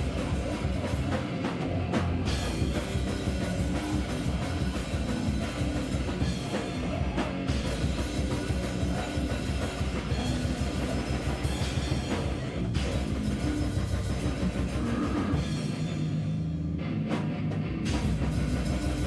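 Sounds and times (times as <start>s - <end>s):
drum kit hits: 0.0s - 16.0s
live noise rock band: 0.0s - 19.0s.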